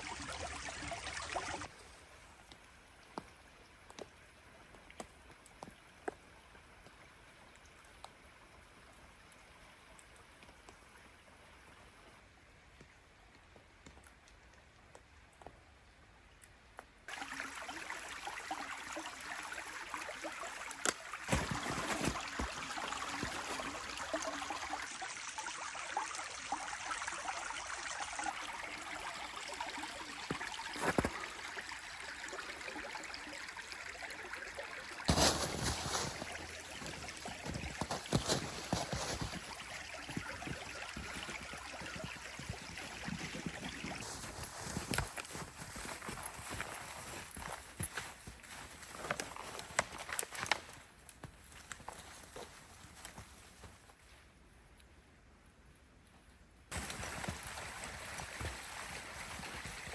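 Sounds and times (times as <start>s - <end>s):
stream running: 0.0s - 50.9s, 56.7s - 59.9s.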